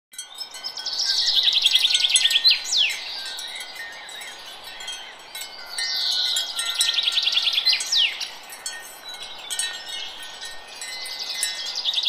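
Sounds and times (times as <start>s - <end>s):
wind chime ringing: 0.1s - 12.0s.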